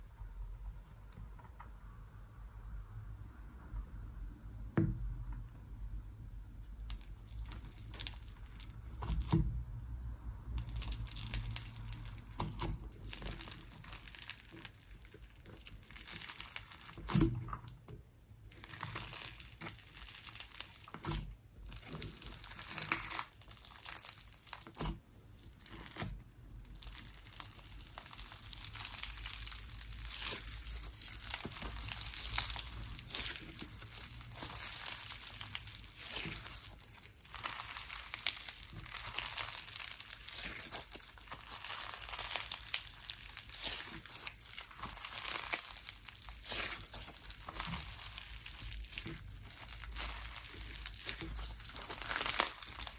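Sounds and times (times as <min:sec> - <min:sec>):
slime crackling and squishing: 0:05.0 - 0:52.9.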